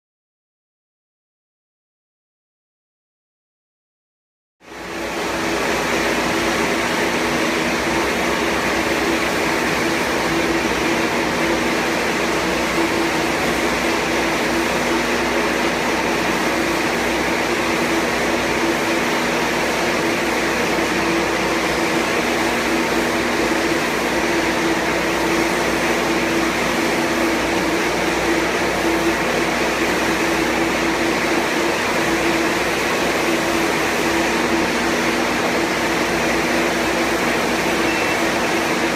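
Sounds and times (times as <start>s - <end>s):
air compressor running: 4.7s - 38.9s.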